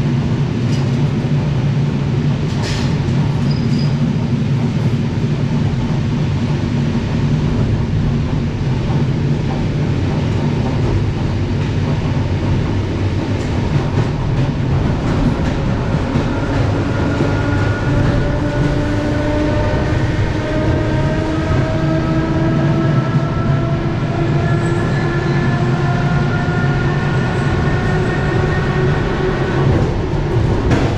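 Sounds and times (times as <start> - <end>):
train wheels rumbling on rails: 0.0 - 30.9.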